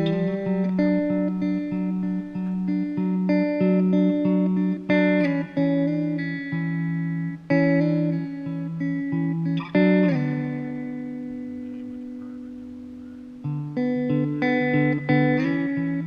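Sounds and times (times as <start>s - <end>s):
picked guitar music: 0.0s - 16.0s.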